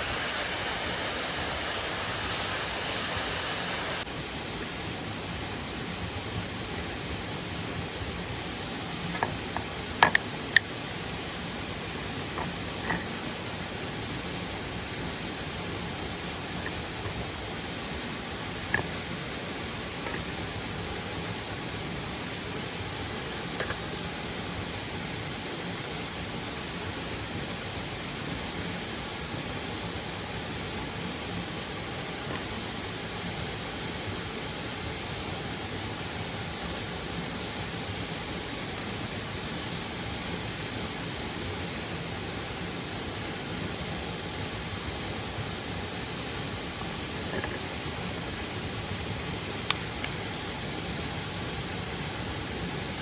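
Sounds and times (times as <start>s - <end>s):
waterfall and stream rushing: 0.0s - 53.0s.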